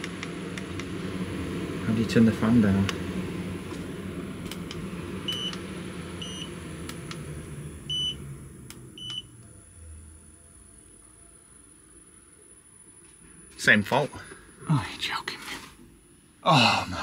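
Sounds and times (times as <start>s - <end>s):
fan running: 0.0s - 17.0s.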